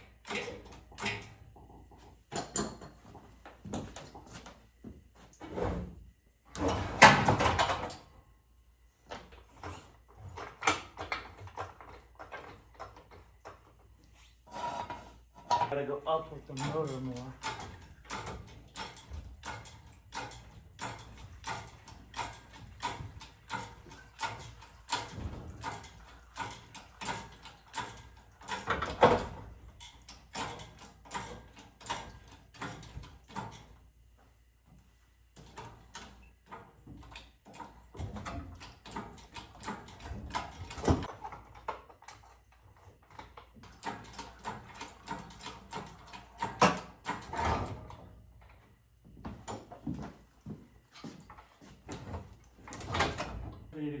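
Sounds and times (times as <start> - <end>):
hydraulic hoist clicking and clanking: 0.0 - 4.6, 6.5 - 8.2, 9.0 - 13.9, 14.5 - 33.9, 35.3 - 53.7.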